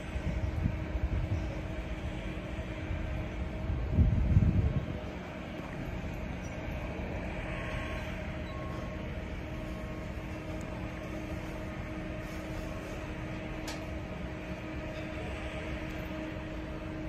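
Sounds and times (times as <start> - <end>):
mechanical drone with hum: 0.0 - 17.0.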